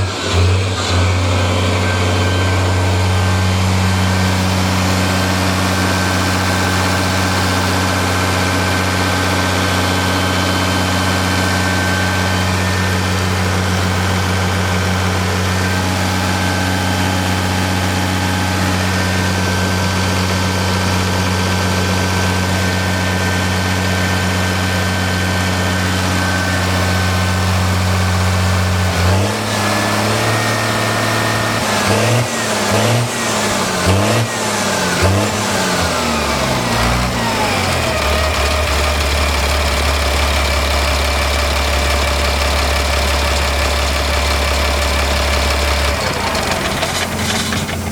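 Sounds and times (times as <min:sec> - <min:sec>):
diesel engine running and revving: 0:00.0 - 0:47.9.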